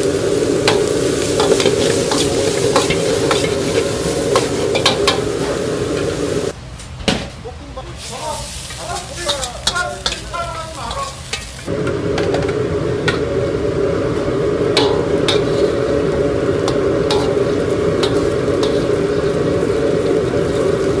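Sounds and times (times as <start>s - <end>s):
food frying with loud roar: 0.0s - 6.6s, 8.0s - 21.0s.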